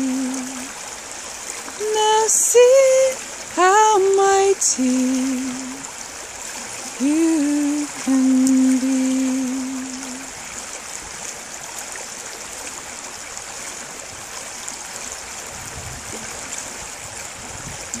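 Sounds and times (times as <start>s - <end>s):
river water running over stones: 0.0s - 18.0s.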